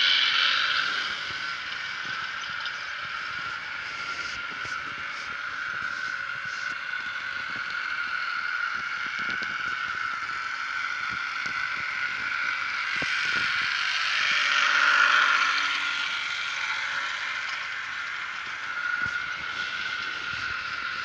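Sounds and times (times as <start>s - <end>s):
model train motor whine: 0.0s - 21.0s
wheels clicking over rail joints: 0.0s - 21.0s.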